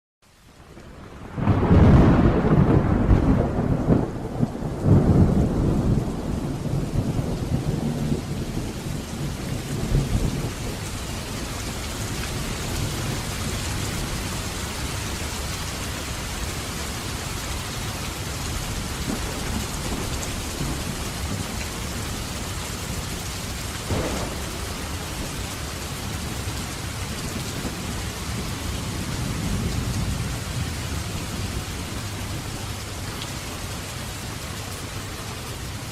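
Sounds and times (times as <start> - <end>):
steady rain: 0.2 - 35.9
thunder rumbling: 0.8 - 35.9.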